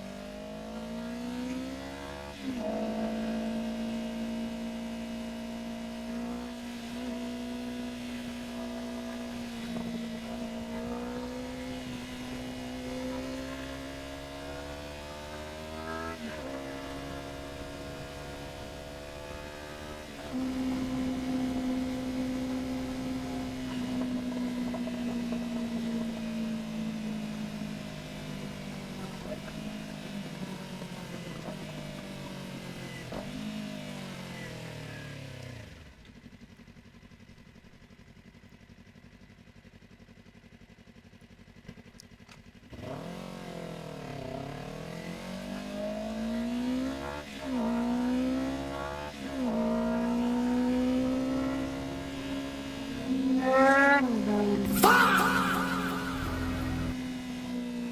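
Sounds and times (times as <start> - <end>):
motorcycle engine shifting gears: 0.0 - 39.6, 40.4 - 57.9.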